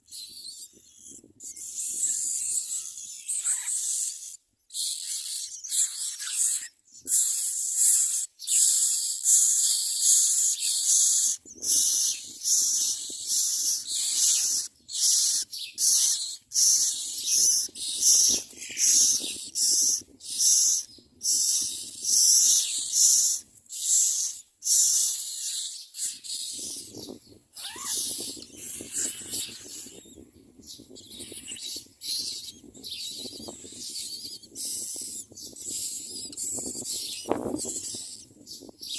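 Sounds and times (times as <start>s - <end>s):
nestlings begging calls: 0.1s - 38.9s.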